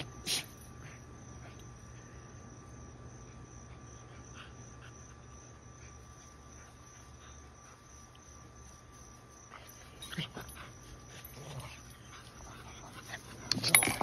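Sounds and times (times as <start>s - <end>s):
insects droning: 0.0s - 14.0s
low hum: 0.0s - 14.0s
small dogs playing: 0.0s - 14.0s.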